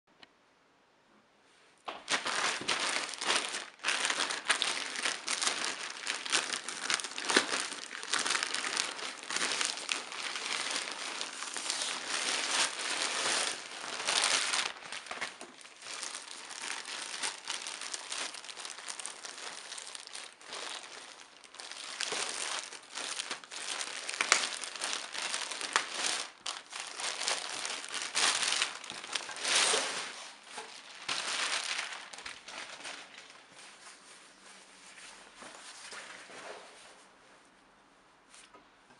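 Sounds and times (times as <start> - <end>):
plastic packaging crinkling: 1.8 - 33.6.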